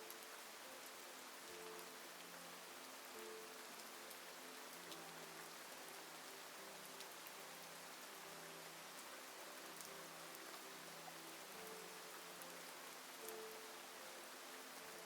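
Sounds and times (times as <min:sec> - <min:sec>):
faint soft music: 0:00.0 - 0:15.0
heavy rain hissing: 0:00.0 - 0:15.0.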